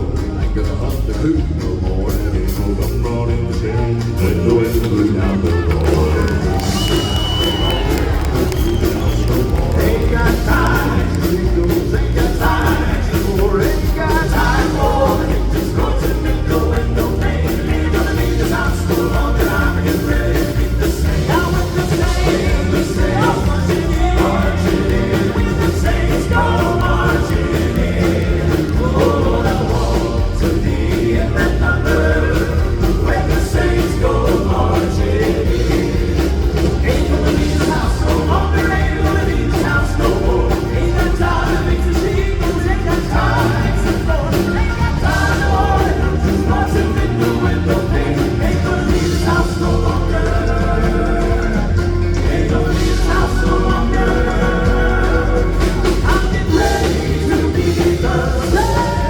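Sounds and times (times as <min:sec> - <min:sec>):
band accompaniment: 0:00.0 - 0:59.0
strong bass line: 0:00.0 - 0:59.0
vocal quartet singing: 0:00.0 - 0:59.0.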